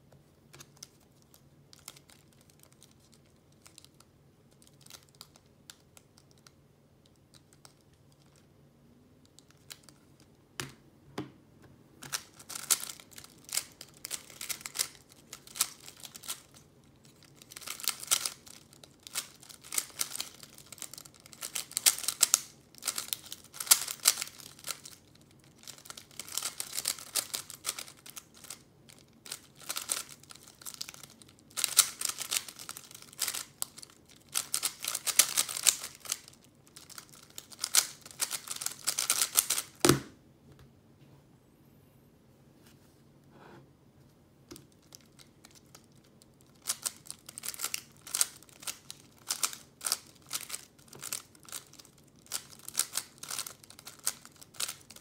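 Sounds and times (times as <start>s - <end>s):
plastic puzzle cube clacking: 0.6s - 8.5s, 12.0s - 39.8s, 44.5s - 55.0s.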